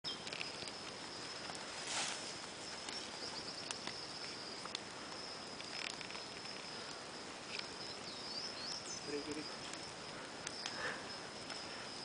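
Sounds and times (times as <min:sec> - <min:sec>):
campfire hissing and crackling: 0:00.1 - 0:12.0
cricket trilling: 0:00.1 - 0:12.0.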